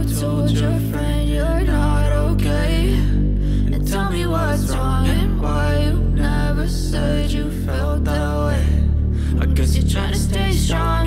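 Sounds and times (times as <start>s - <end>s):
melodic music over bass line: 0.0s - 11.0s.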